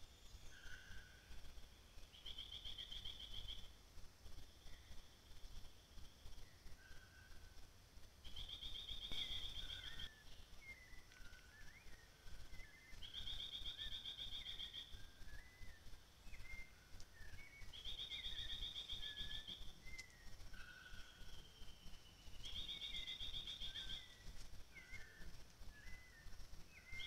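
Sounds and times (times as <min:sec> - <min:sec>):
whistled bird notes: 0:00.0 - 0:03.7, 0:08.2 - 0:27.0.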